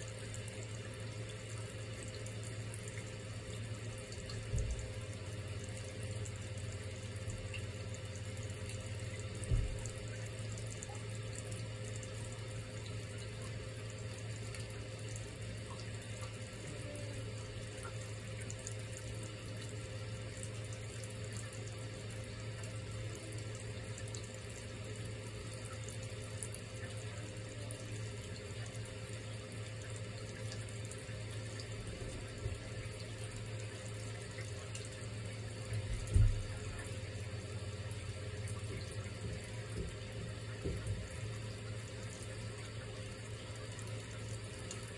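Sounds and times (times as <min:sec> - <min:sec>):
thin stream of water running: 0:00.0 - 0:44.9.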